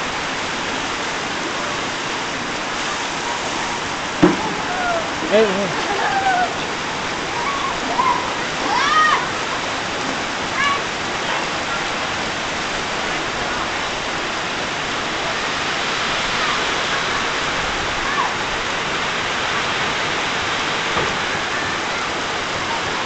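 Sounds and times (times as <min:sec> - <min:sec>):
heavy rain drumming on foliage: 0:00.0 - 0:23.0.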